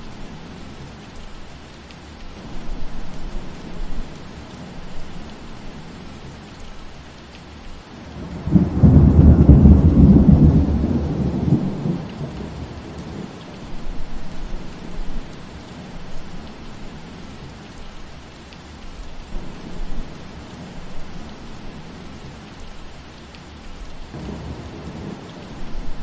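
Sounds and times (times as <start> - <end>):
rain falling through trees: 0.0 - 26.0.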